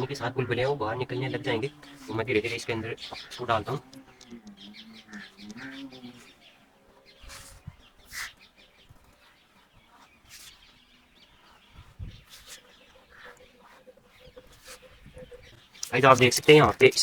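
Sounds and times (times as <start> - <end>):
faint bird calls: 0.0 - 16.4
chicken calls: 0.0 - 17.0.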